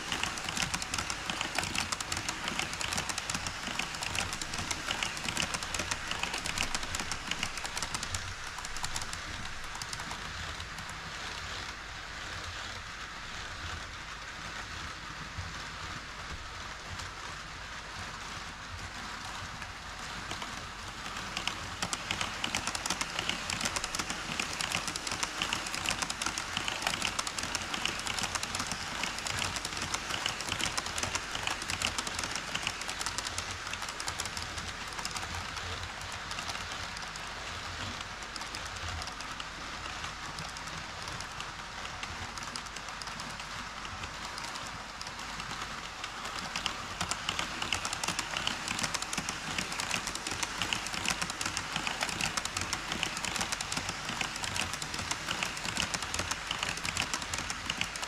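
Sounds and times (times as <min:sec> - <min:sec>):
model train wheels clattering: 0:00.0 - 0:58.0.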